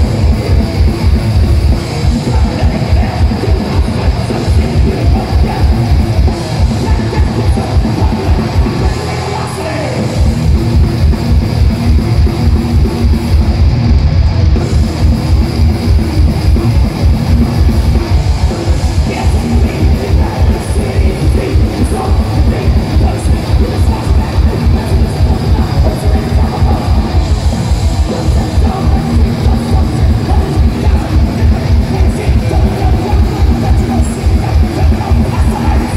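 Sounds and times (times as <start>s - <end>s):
distorted electric guitars and bass: 0.0s - 35.9s.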